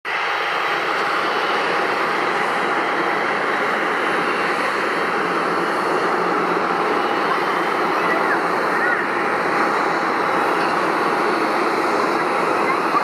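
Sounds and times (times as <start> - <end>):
jet engine rushing: 0.1 - 13.0.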